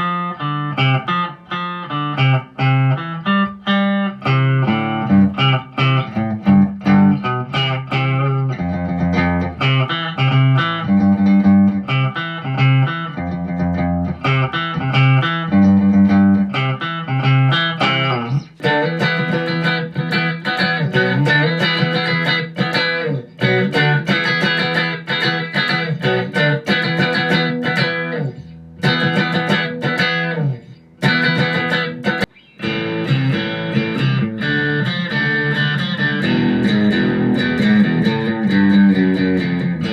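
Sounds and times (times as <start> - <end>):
electric guitar notes and chords: 0.0 - 39.9.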